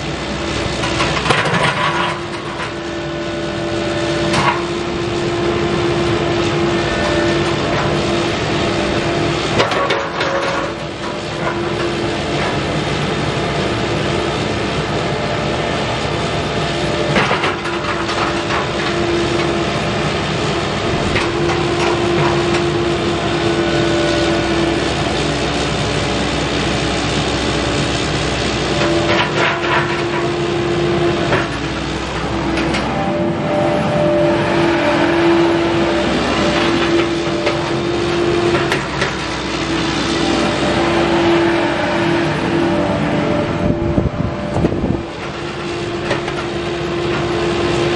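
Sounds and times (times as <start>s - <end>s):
diesel engine running: 0.0s - 47.9s
excavator clanking: 0.0s - 47.9s
hydraulic whine: 0.0s - 47.9s.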